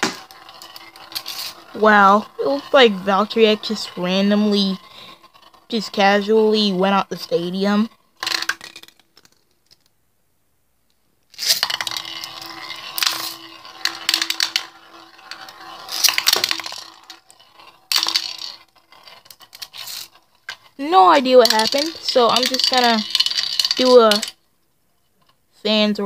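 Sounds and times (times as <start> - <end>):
spinning top scraping on glass: 0.0 - 9.4, 11.3 - 24.4
spinning top clattering: 0.0 - 9.9, 11.3 - 24.4.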